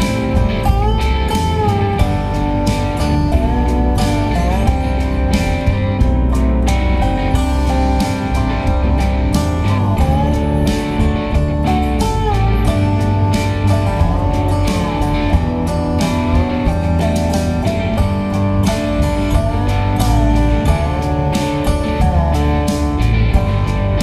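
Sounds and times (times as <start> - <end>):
guitar music with steady beat: 0.0 - 24.0.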